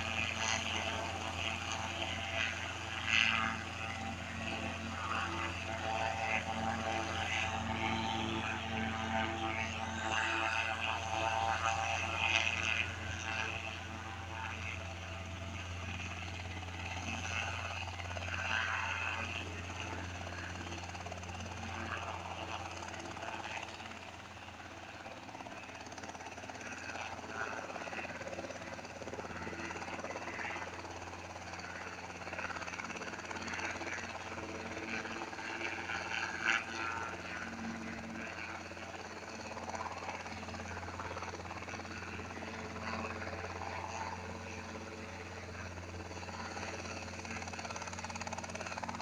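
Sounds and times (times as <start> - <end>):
helicopter droning: 0.0 - 49.0.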